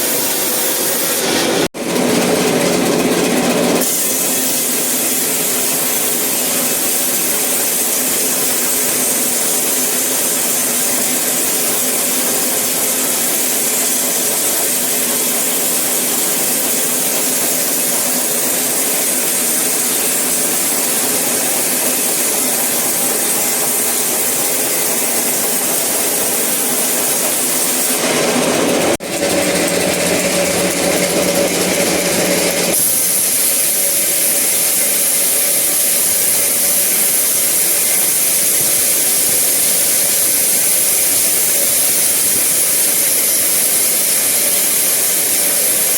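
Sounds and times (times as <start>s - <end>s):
saw blade cutting wood: 0.0s - 45.9s.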